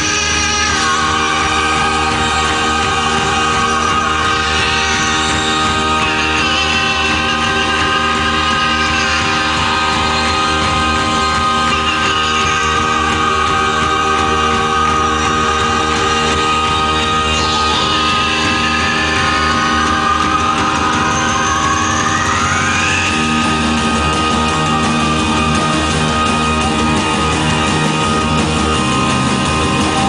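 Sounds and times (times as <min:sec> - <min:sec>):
live electronic music: 0:00.0 - 0:30.0.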